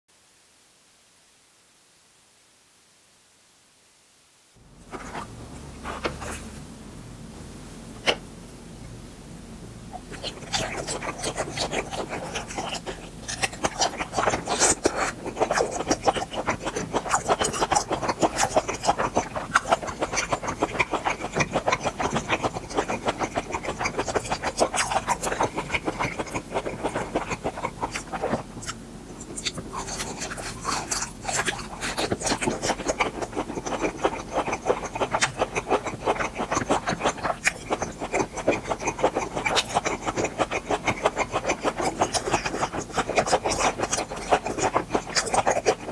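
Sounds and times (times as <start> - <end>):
chewing with mouth clicks: 4.9 - 6.5, 9.9 - 45.9.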